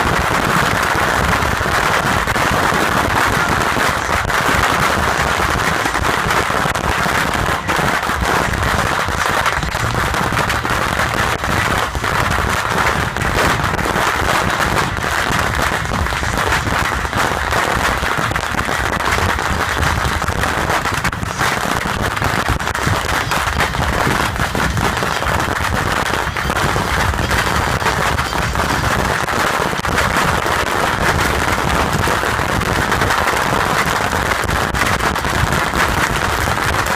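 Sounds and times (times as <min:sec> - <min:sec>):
bottle rockets firing rapid bangs: 0:00.0 - 0:36.9.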